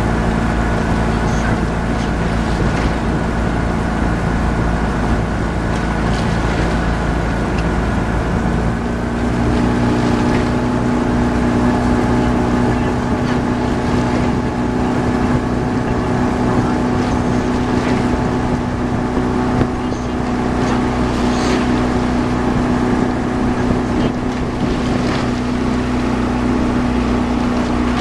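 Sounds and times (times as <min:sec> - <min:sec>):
motorboat engine humming: 0:00.0 - 0:28.0
wind on microphone: 0:00.0 - 0:28.0.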